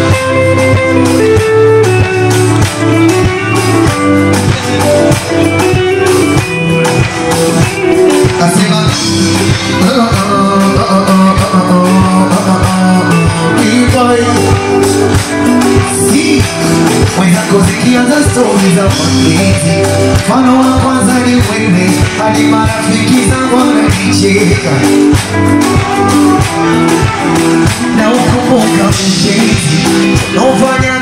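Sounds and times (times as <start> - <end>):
band music with guitar: 0.0 - 31.0
person singing: 0.0 - 31.0.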